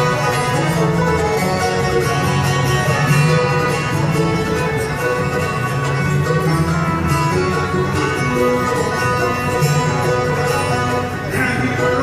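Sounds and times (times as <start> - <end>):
bluegrass band playing: 0.0 - 12.0.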